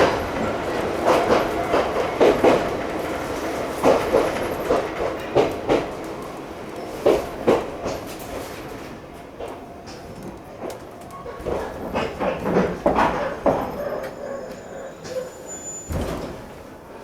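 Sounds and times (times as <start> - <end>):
train wheels knocking on rail joints: 0.0 - 14.2
train running rumble: 0.0 - 17.0.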